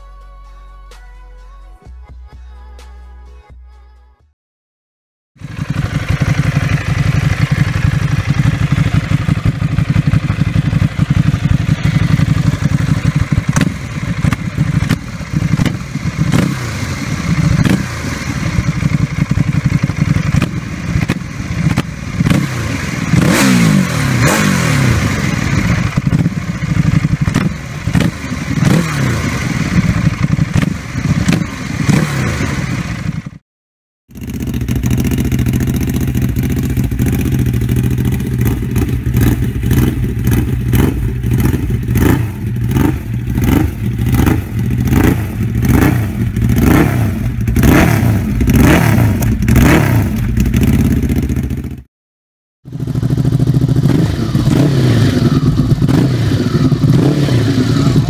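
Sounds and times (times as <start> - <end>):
motorcycle engine blipped in short revs: 5.4 - 33.4, 34.1 - 51.9, 52.7 - 58.0
motorcycle engine idling and revving: 5.4 - 33.4, 34.1 - 51.9, 52.6 - 58.0.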